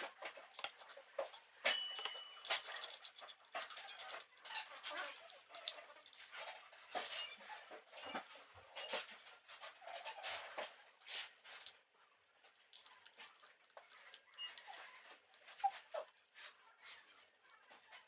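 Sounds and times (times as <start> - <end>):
handwheels turning with squeaks: 0.0 - 10.8, 12.8 - 18.0.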